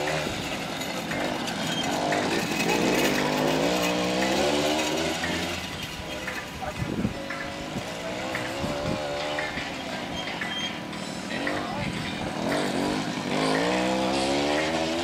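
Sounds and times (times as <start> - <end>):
mini quad engines buzzing: 0.0 - 15.0.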